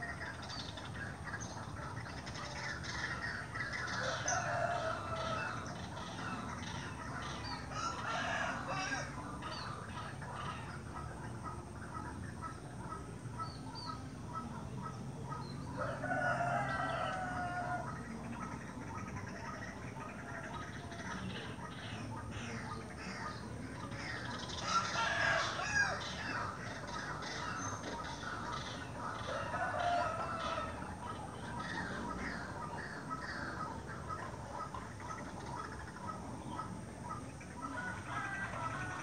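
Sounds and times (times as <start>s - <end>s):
birds chirping: 0.0s - 39.0s
loud long bird calls: 0.0s - 39.0s.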